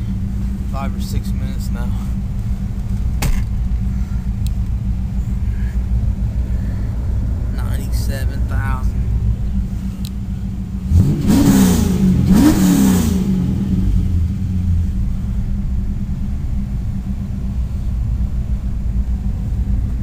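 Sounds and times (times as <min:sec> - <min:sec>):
car engine idling: 0:00.0 - 0:20.0
car engine revving: 0:00.0 - 0:20.0.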